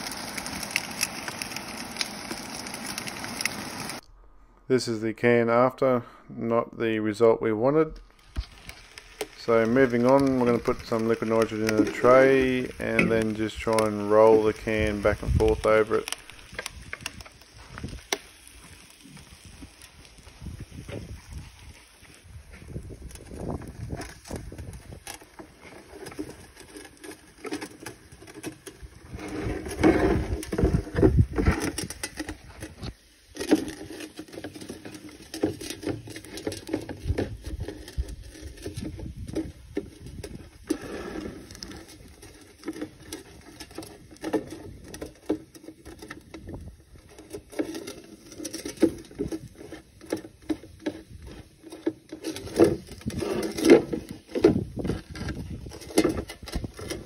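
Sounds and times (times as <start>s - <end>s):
can rolling and rattling in tray: 0.0s - 4.0s, 8.0s - 57.0s.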